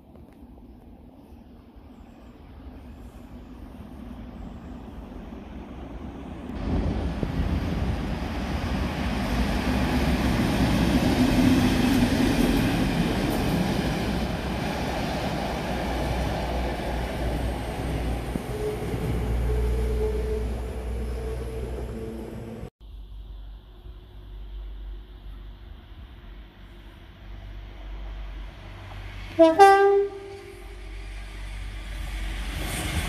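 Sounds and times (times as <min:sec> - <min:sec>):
diesel locomotive passing: 0:00.2 - 0:22.7, 0:23.4 - 0:33.0
train wheels on rails: 0:02.6 - 0:22.7, 0:25.8 - 0:33.0.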